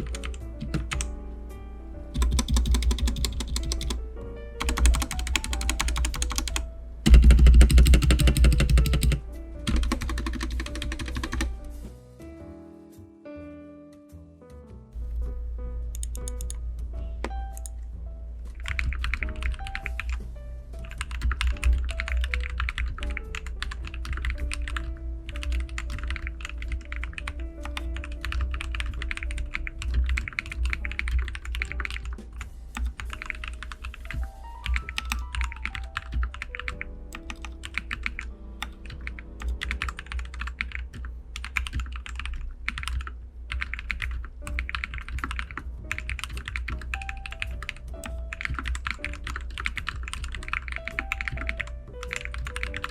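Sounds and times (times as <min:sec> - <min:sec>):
fast typing on mechanical keyboard: 0:00.0 - 0:01.1, 0:02.1 - 0:04.0, 0:04.6 - 0:11.6, 0:18.6 - 0:20.2, 0:20.8 - 0:52.9.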